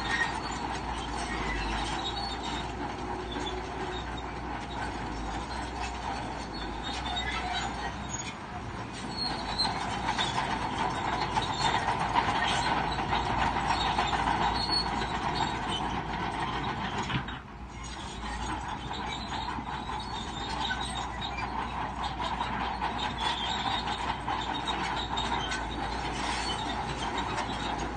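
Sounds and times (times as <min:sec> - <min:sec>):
bulldozer diesel engine under load: 0:00.0 - 0:27.9
steel tracks clanking and squealing: 0:00.0 - 0:27.9.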